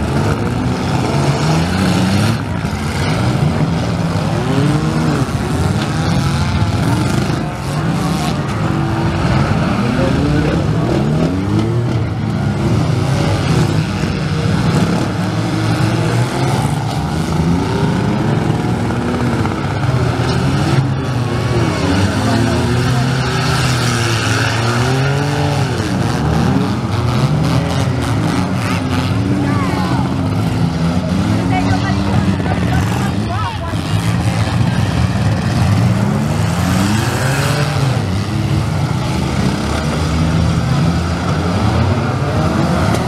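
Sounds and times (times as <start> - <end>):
car engines revving: 0.0 - 43.0.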